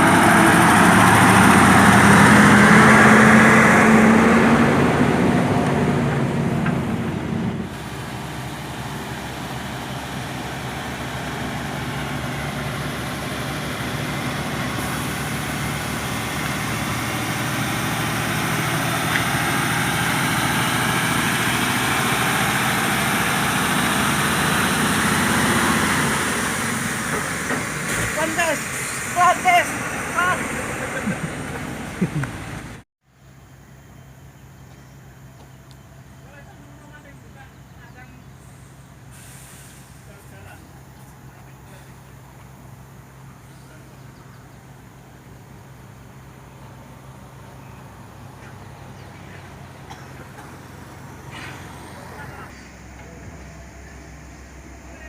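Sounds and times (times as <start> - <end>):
truck diesel engine running: 0.0 - 32.8, 36.2 - 55.0.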